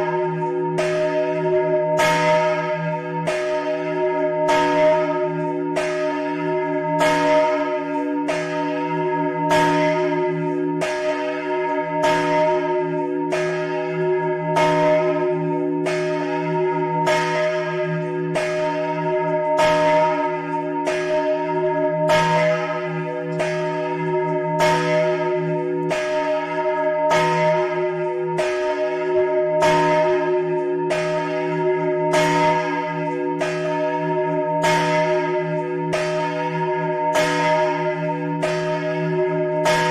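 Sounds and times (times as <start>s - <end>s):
large church bell tolling: 0.0s - 39.9s.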